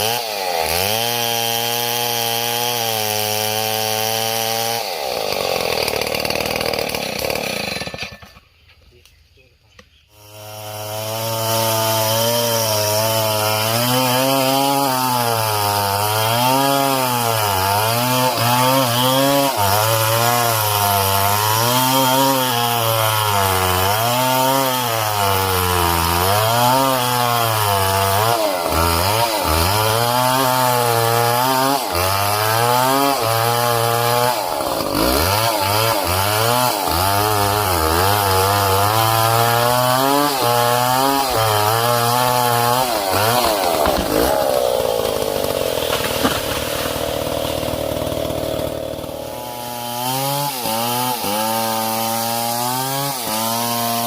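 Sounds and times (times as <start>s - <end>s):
chainsaw cutting timber: 0.0s - 8.6s, 10.1s - 54.0s.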